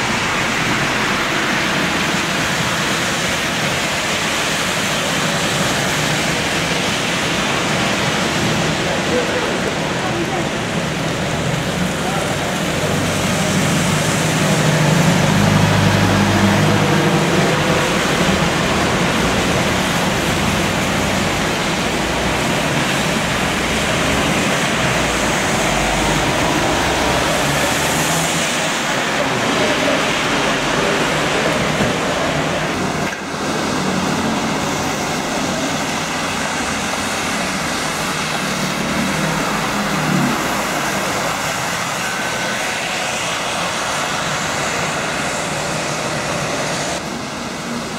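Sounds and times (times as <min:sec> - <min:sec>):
bus diesel engines: 0:00.0 - 0:47.9
tyres hissing on wet road: 0:00.0 - 0:47.9.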